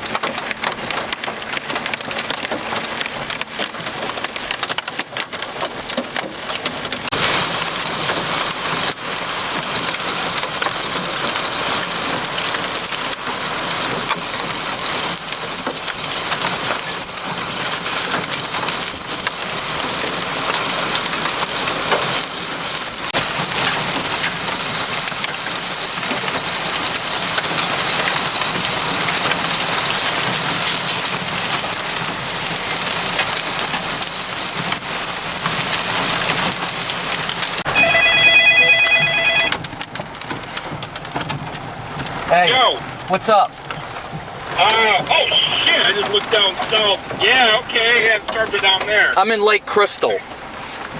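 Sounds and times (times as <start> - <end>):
rain and hail pelting a vehicle: 0.0 - 50.9.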